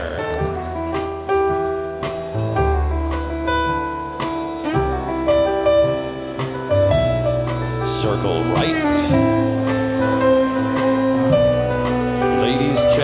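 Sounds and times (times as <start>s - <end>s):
digital piano chords: 0.0s - 13.0s
drum strikes: 0.0s - 13.0s
low bass line: 0.0s - 13.0s.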